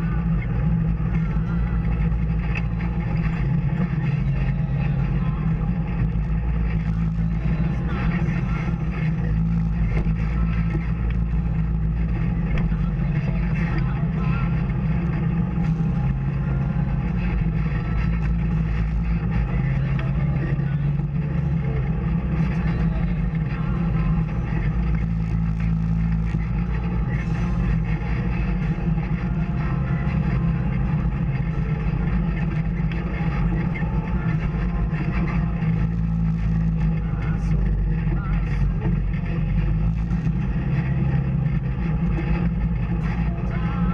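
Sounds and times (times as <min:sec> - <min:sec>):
off-road vehicle engine: 0:00.0 - 0:43.9.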